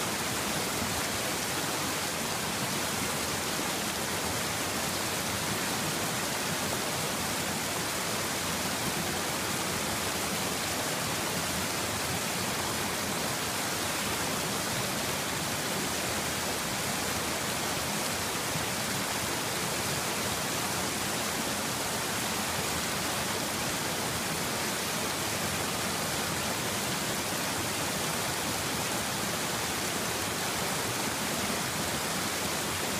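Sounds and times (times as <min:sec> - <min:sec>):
water rushing over rocks: 0:00.0 - 0:32.9.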